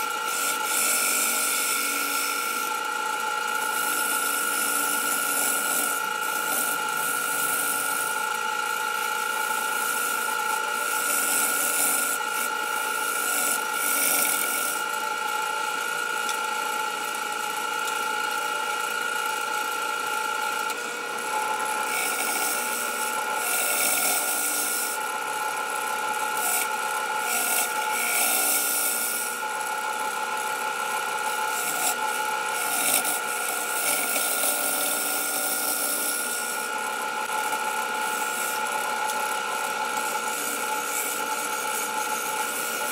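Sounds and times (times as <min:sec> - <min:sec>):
tool cutting wood hissing: 0:00.0 - 0:15.4, 0:20.6 - 0:42.9
wood lathe whining: 0:00.0 - 0:42.9.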